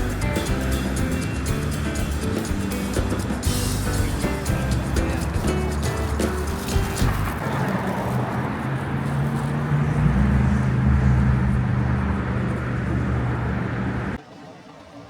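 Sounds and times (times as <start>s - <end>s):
vehicle engine running: 0.0s - 14.2s.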